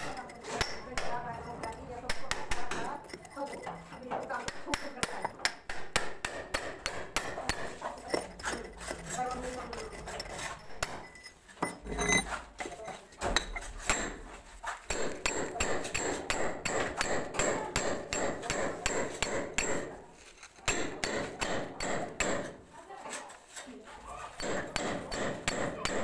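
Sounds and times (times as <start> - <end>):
hammer striking steel chisel: 0.0 - 22.6, 24.2 - 26.0.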